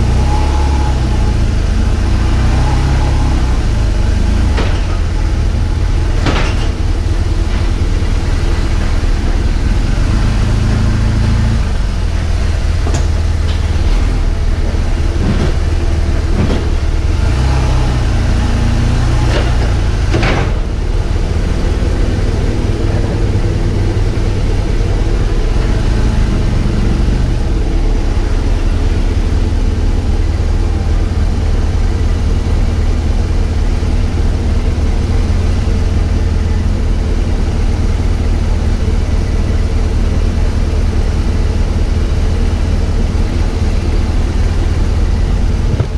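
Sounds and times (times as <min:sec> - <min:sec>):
motorcycle engine rumbling: 0:00.0 - 0:45.9.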